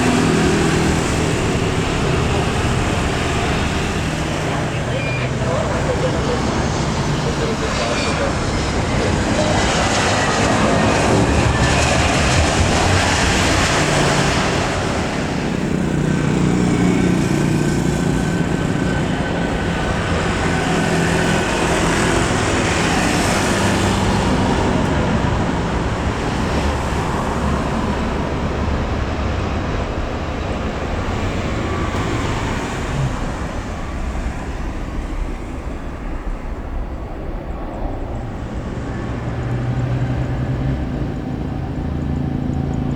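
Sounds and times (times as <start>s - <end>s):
jet airliner engines passing: 0.0s - 42.9s.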